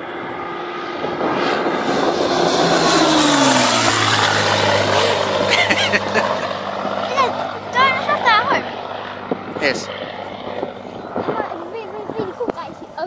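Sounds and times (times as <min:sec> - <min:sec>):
propeller plane engine flyby: 0:00.0 - 0:13.0.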